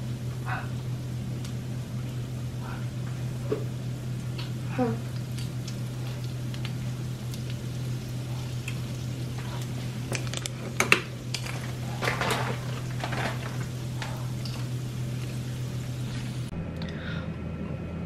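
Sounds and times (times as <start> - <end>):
food frying with pops: 0.0 - 16.5
steady low hum: 0.0 - 18.0.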